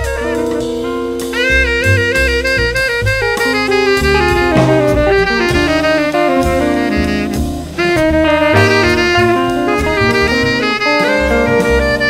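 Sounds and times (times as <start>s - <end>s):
drum kit: 0.0s - 12.0s
tenor saxophone soloing: 0.0s - 12.0s
upright bass: 0.0s - 12.0s.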